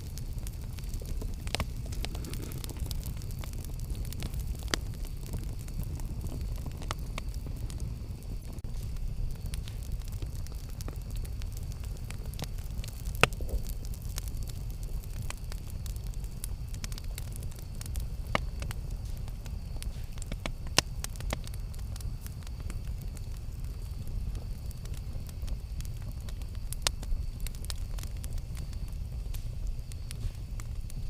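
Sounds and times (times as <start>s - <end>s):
low rumble of flames: 0.0s - 31.0s
wood crackling and popping: 0.0s - 31.0s.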